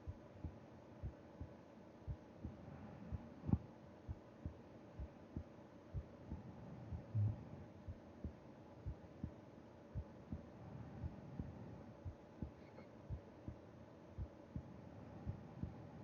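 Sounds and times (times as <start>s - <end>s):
heartbeat lub-dub: 0.0s - 16.0s.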